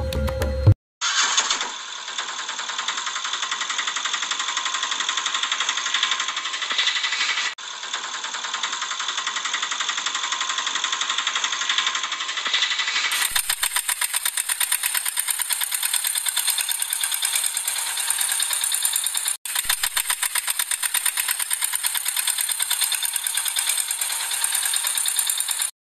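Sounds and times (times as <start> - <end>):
small engine putter: 1.0 - 25.8.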